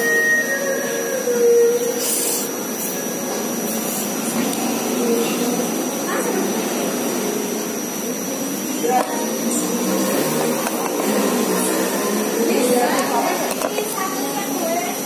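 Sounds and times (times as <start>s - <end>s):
droning background noise: 0.0s - 15.0s
thin high whine: 0.0s - 15.0s.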